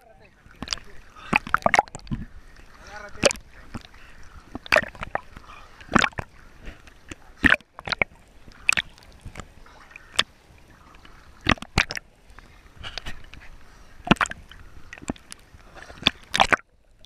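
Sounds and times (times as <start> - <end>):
water sloshing against camera: 0.0 - 17.0
short sharp splashes: 0.5 - 12.1, 14.0 - 16.7.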